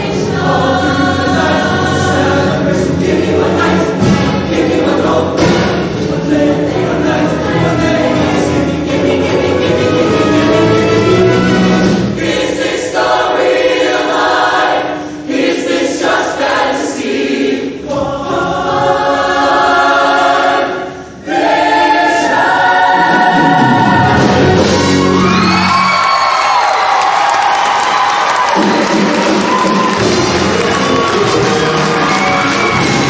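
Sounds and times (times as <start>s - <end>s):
choir singing in harmony: 0.0s - 25.4s, 27.7s - 33.0s.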